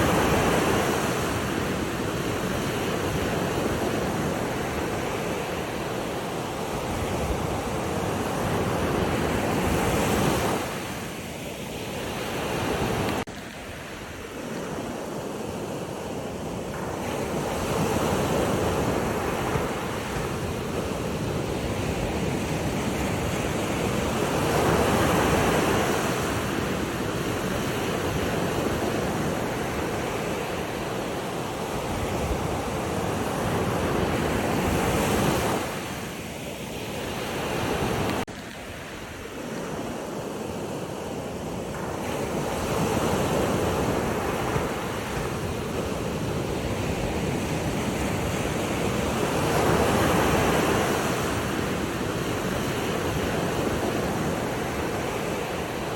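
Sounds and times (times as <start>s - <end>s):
sea waves breaking: 0.0s - 55.9s.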